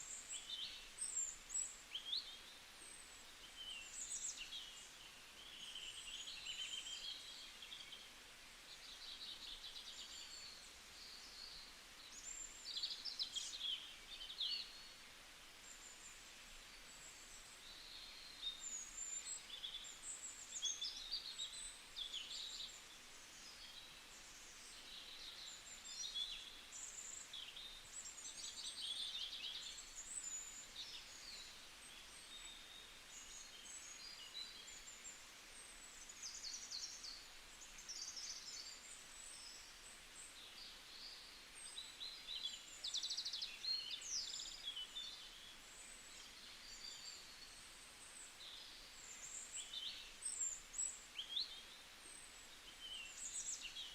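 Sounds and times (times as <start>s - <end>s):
faint outdoor hiss: 0.0s - 53.9s
songbirds chirping and trilling: 0.0s - 53.9s.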